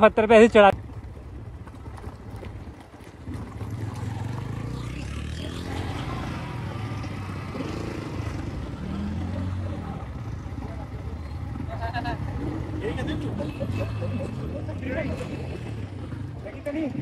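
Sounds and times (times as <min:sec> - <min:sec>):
motorcycle engine running: 0:00.8 - 0:17.0.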